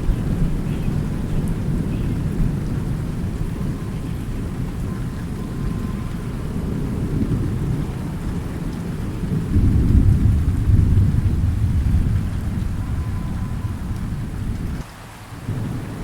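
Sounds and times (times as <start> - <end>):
low rumble of thunder: 0.0 - 16.0
steady rain: 0.0 - 16.0.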